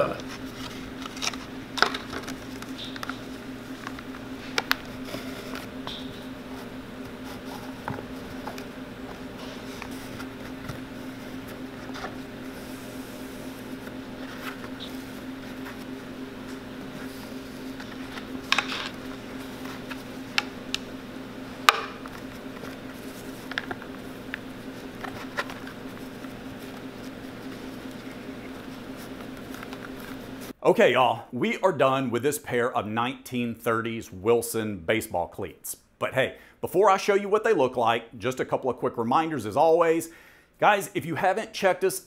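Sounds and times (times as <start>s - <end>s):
steady low hum: 0.0s - 36.7s.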